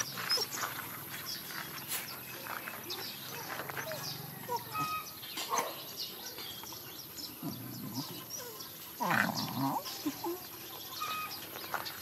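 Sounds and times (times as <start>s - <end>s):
dogs whimpering and squeaking: 0.0s - 0.9s, 3.2s - 12.0s.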